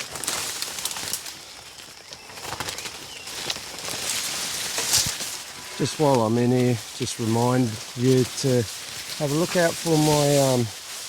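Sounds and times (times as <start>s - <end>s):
footsteps through leaf litter: 0.0s - 11.0s.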